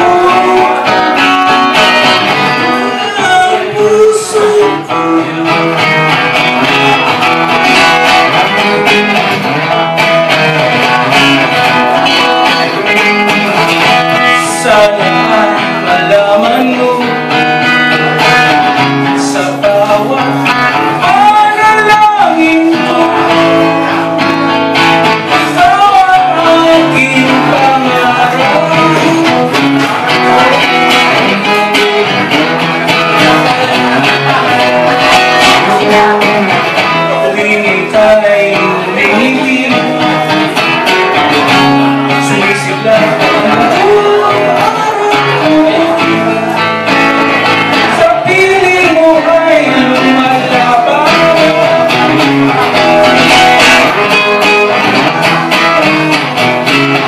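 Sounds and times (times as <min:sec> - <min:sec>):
man singing: 0:00.0 - 0:57.0
strummed acoustic guitar: 0:00.0 - 0:57.0.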